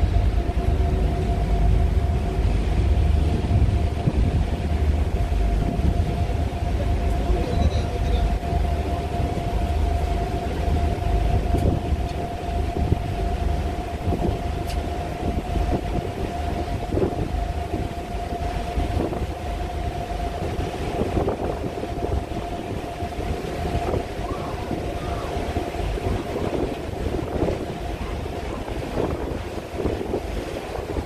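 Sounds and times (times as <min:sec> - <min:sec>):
ferry engine droning rumble: 0:00.0 - 0:31.0.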